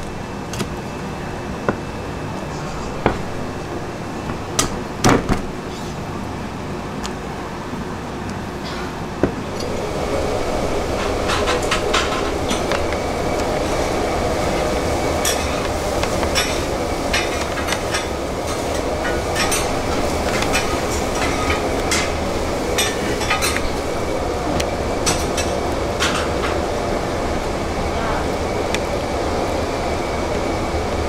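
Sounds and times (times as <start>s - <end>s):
kitchen background rumble: 0.0s - 31.0s.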